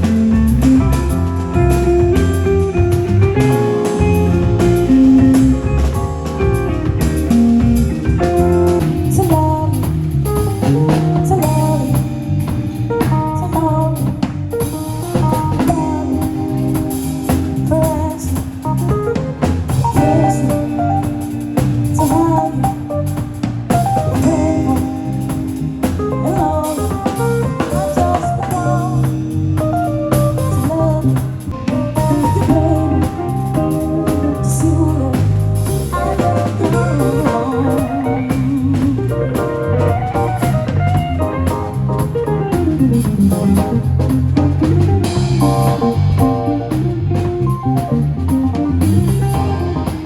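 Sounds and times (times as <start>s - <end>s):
live band playing: 0.0s - 50.0s.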